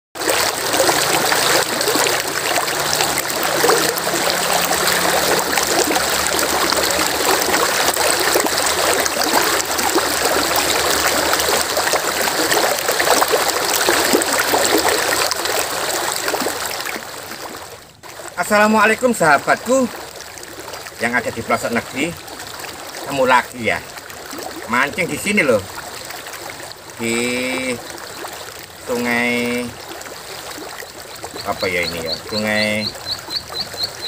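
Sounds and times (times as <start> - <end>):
stream water flowing: 0.2 - 34.0.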